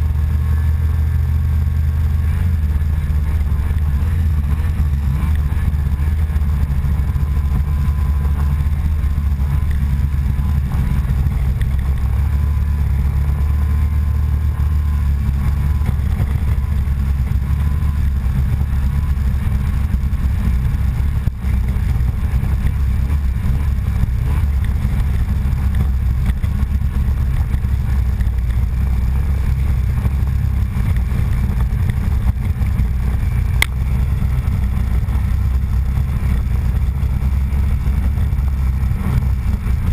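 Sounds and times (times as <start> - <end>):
small vehicle engine running: 0.0 - 39.9.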